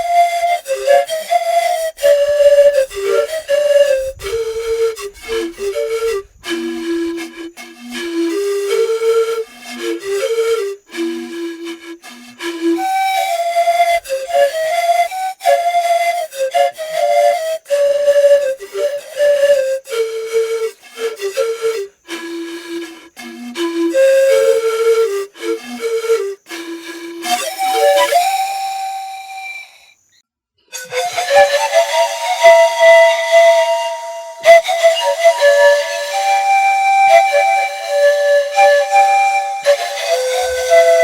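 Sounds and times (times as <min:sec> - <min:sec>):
flute-like wind instrument melody: 0:00.0 - 0:41.0.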